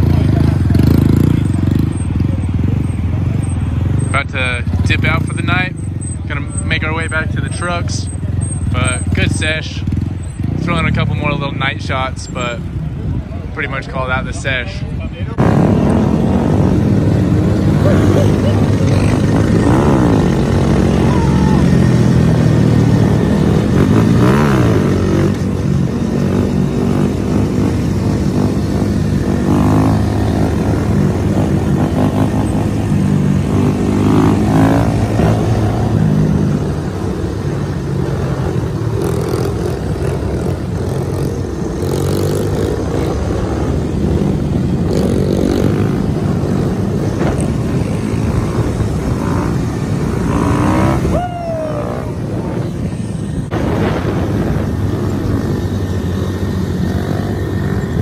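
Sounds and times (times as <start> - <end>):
mini bike engines revving: 0.0 - 58.0.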